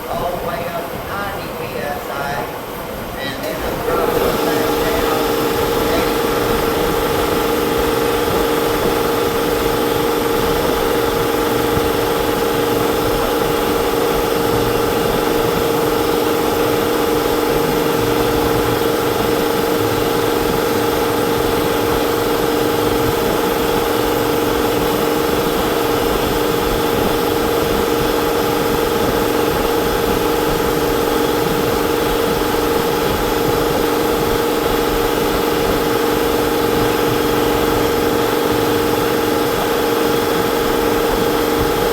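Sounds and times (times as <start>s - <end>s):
motor hum: 2.5s - 41.9s.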